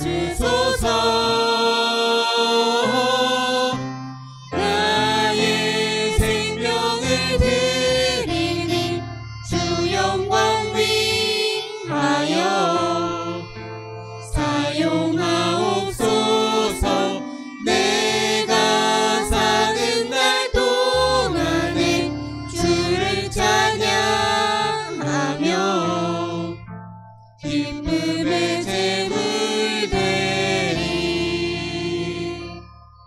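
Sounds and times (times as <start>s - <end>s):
man and woman singing: 0.0s - 3.8s, 4.6s - 13.4s, 14.4s - 26.7s, 27.4s - 32.6s
keyboard: 0.0s - 33.0s
violin: 0.0s - 33.0s.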